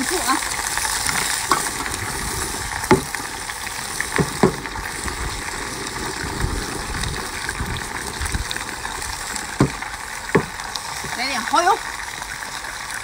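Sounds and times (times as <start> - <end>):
seafood sizzling in wok: 0.0 - 13.0.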